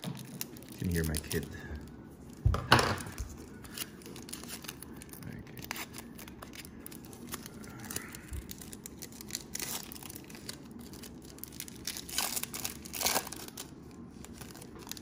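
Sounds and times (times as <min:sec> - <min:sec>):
trading cards rustling: 0:00.0 - 0:02.4, 0:03.0 - 0:15.0
plastic crinkling: 0:00.0 - 0:15.0.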